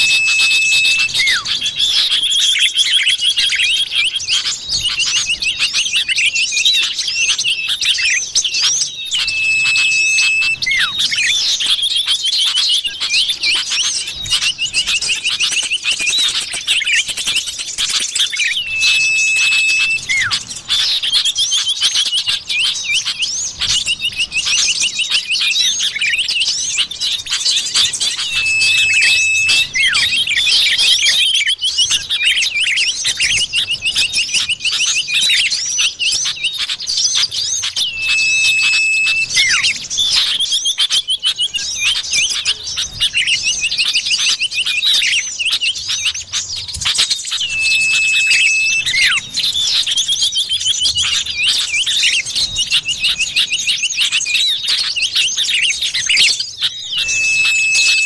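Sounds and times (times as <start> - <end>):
bird chirps and trills: 0.0 - 58.0
long steady bird whistle: 0.0 - 58.0.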